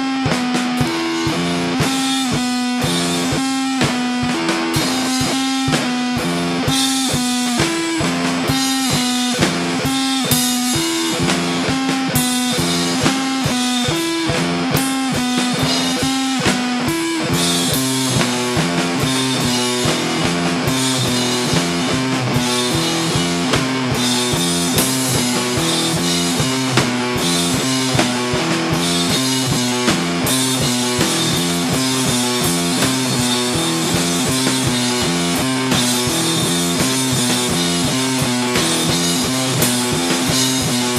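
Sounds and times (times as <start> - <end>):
drum kit: 0.0 - 40.9
electric guitar riff: 0.0 - 40.9.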